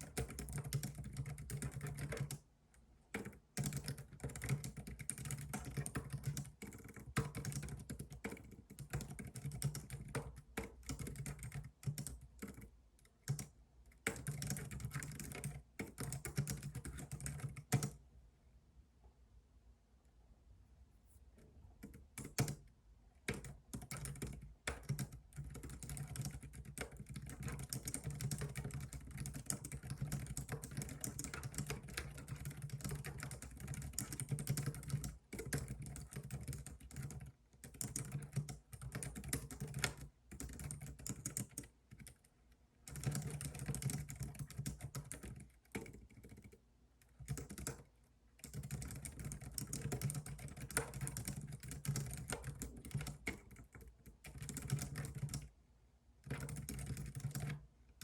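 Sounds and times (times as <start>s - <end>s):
computer keyboard typing: 0.0s - 2.4s, 3.1s - 18.0s, 21.8s - 55.5s, 56.2s - 57.6s.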